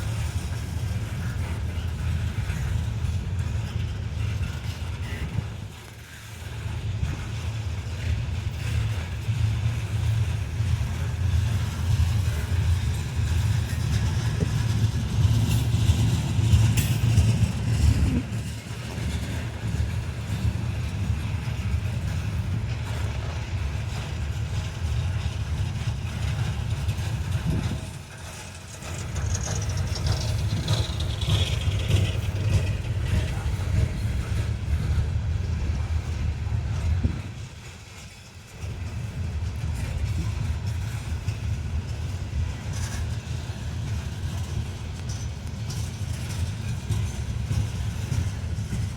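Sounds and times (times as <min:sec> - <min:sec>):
train rolling rumble: 0:00.0 - 0:48.9.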